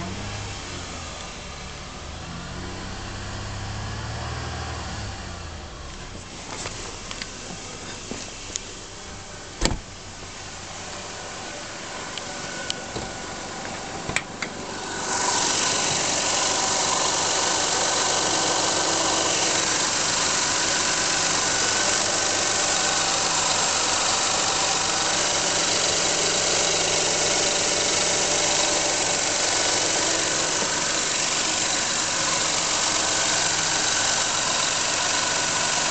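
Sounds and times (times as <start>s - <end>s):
car engine running: 0.0s - 35.9s
hissing grinding noise under engine: 2.1s - 35.9s.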